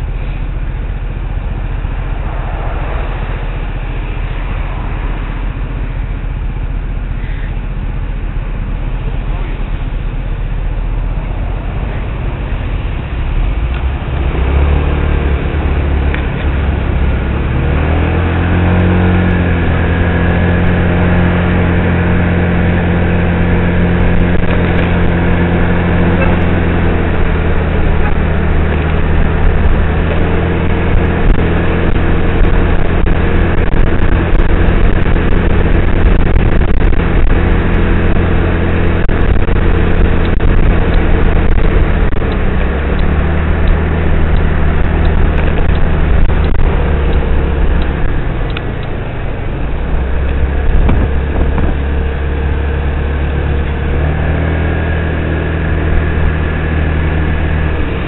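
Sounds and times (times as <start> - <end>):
wind and road noise: 0.0 - 58.0
scooter engine running: 5.2 - 58.0.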